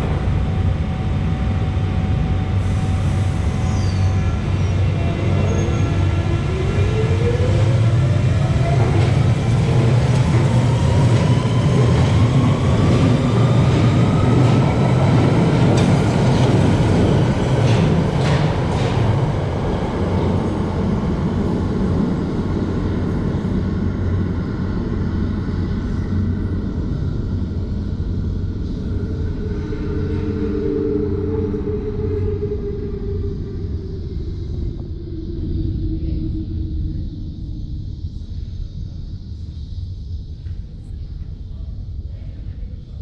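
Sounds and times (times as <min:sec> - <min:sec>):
train wheels rumbling in tunnel: 0:00.0 - 0:43.0.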